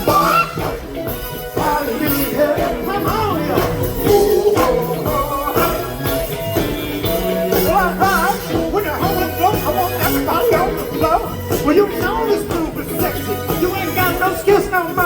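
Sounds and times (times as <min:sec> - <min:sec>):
bass line: 0:00.0 - 0:15.0
funk band playing: 0:00.0 - 0:15.0
person singing: 0:00.0 - 0:15.0.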